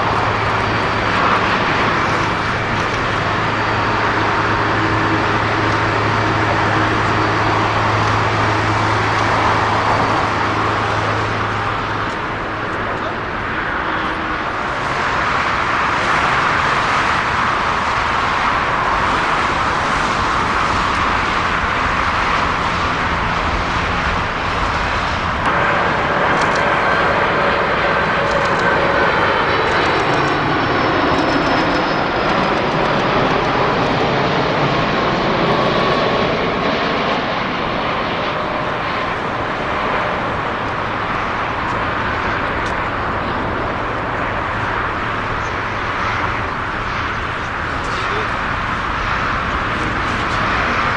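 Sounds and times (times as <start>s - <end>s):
high jet engine whine: 0.0s - 50.9s
jet engines rushing: 0.0s - 50.9s.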